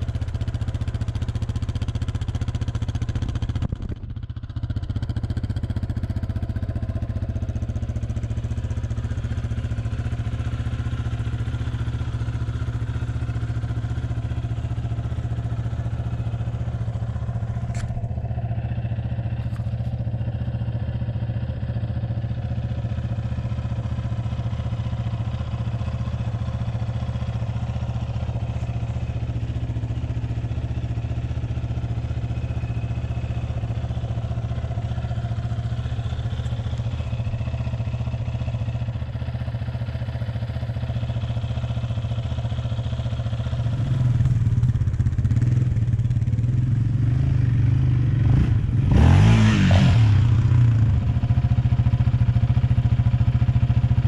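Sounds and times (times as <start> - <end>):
atv engine idling: 0.0 - 54.0.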